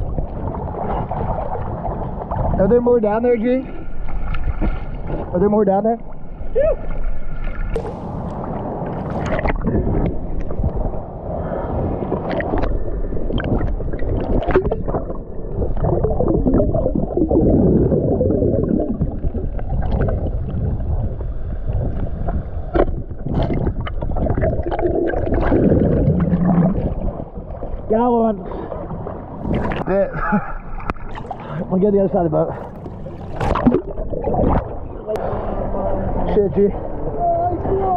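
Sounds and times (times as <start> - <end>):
muffled water sloshing and bubbling: 0.0 - 37.9.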